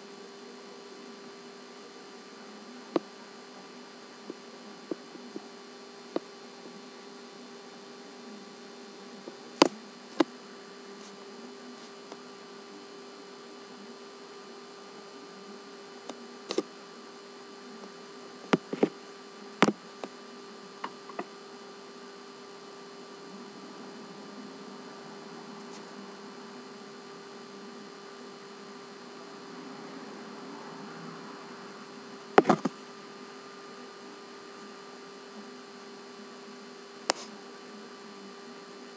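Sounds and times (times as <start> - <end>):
electrical hum with whine: 0.0 - 38.9.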